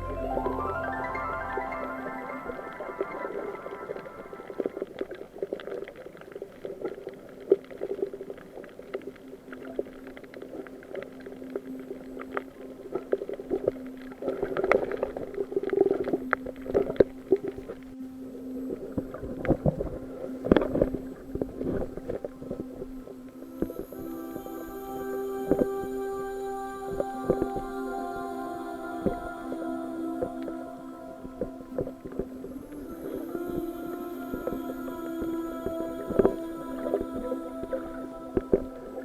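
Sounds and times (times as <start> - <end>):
muffled underwater sloshing: 0.0 - 39.0.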